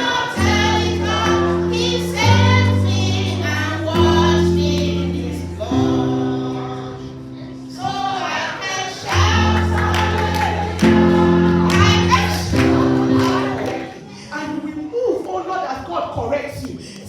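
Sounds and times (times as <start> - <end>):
voices singing worship music: 0.0 - 14.7.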